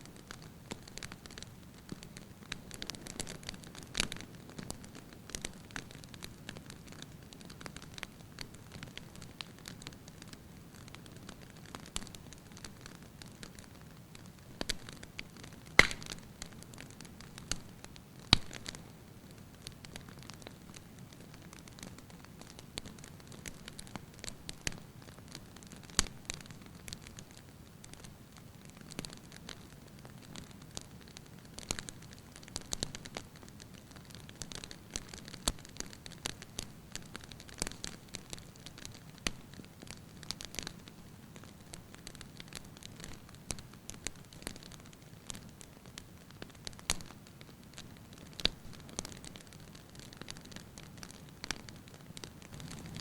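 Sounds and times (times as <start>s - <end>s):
logs crackling and popping: 0.0s - 53.0s.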